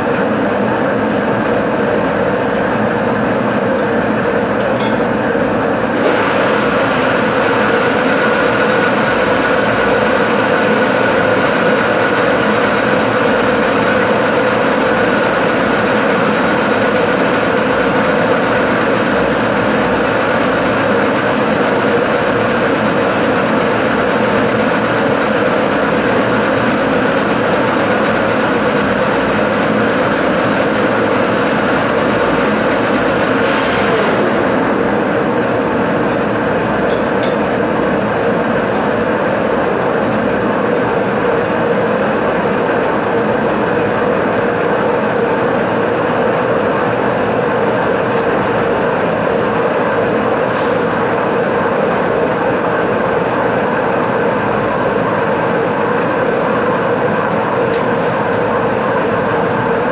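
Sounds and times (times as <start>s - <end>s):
machine roaring: 0.8s - 57.7s.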